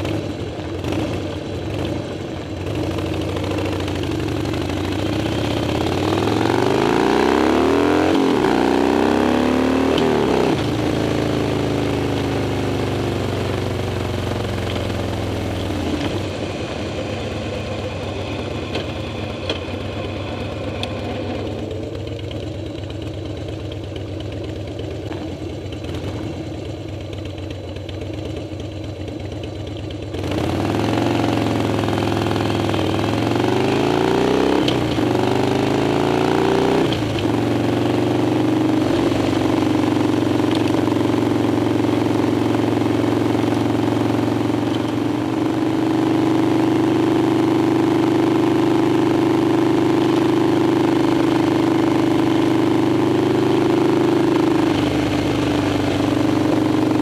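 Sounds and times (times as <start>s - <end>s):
motorcycle engine idling and accelerating: 0.0s - 57.0s.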